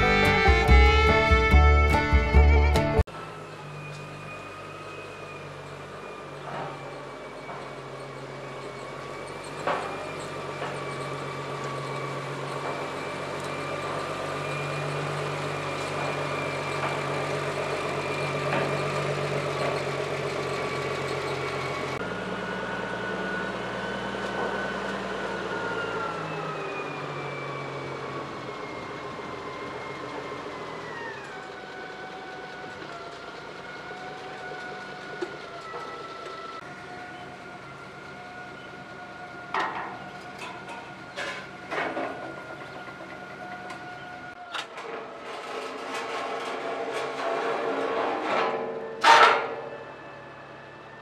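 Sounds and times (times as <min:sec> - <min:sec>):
wheel loader engine running: 0:00.0 - 0:51.0.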